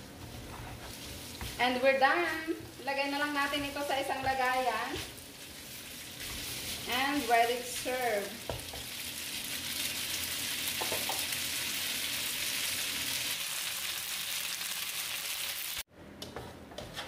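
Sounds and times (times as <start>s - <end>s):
food sizzling in a wok: 0.8s - 15.9s.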